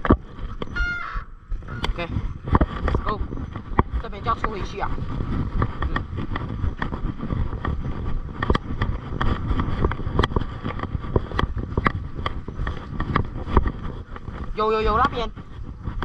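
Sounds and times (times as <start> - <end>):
bike clicks and rattles: 0.0 - 0.8, 1.6 - 16.0
wind buffeting microphone: 0.0 - 16.0
tyre rumble on dirt: 2.0 - 16.0.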